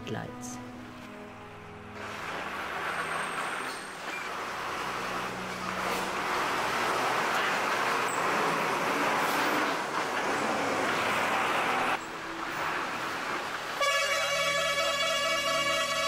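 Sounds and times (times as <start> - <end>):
truck engines running: 1.3 - 16.0.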